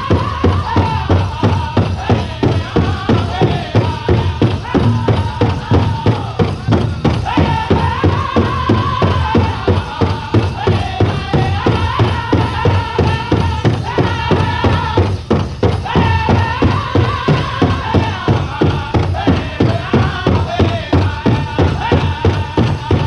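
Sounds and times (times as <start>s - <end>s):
big drum beating: 0.0s - 23.0s
high-pitched voices singing: 0.0s - 23.0s.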